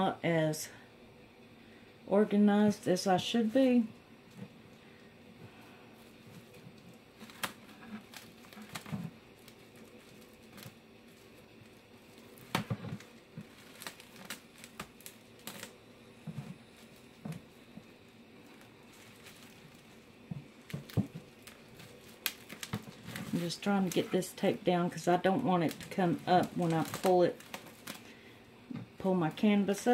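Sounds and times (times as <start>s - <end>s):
bubble wrap crinkling: 2.7s - 29.9s.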